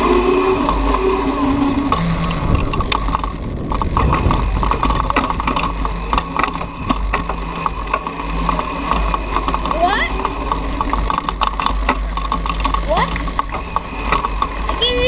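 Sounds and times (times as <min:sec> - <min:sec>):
bike rattling and knocking: 0:00.0 - 0:15.0
electric motor whine: 0:00.0 - 0:15.0.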